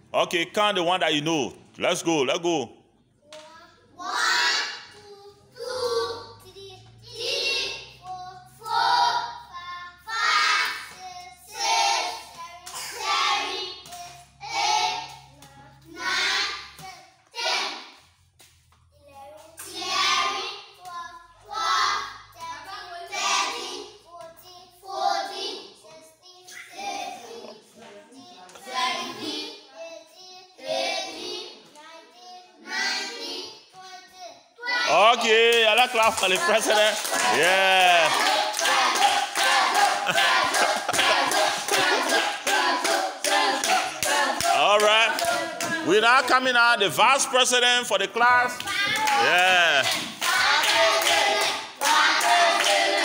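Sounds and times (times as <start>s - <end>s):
young children chanting numbers: 3.3s - 18.0s, 19.1s - 47.2s, 48.5s - 53.0s.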